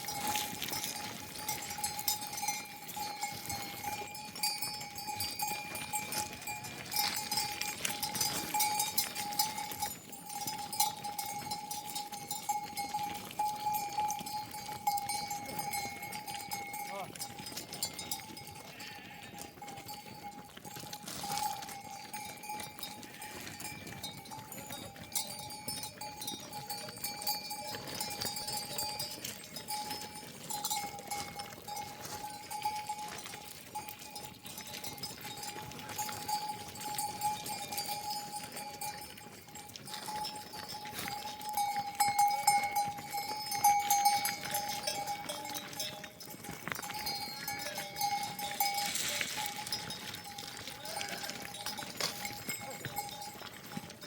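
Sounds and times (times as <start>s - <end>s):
animal bells clanking: 0.0s - 54.0s.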